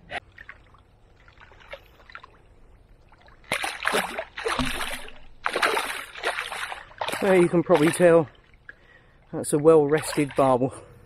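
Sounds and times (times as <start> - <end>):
water splashing around a net: 0.2 - 10.6.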